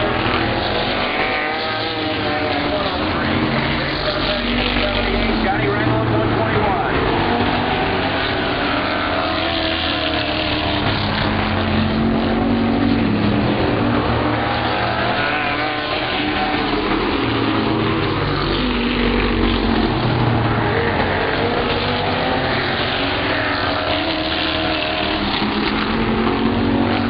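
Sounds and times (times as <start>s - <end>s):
race car engines passing: 0.0s - 27.0s.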